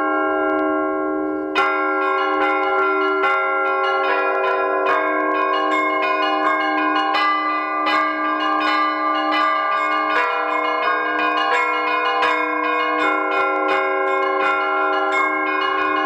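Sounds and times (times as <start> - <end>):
church bells ringing: 0.0 - 16.0
low hum of large bell: 0.0 - 16.0.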